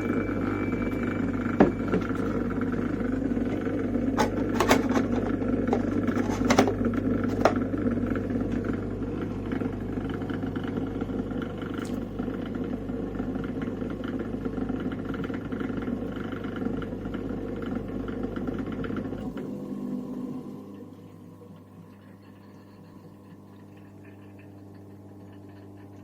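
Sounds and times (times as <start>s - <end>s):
dishwasher motor hum: 0.0s - 26.0s.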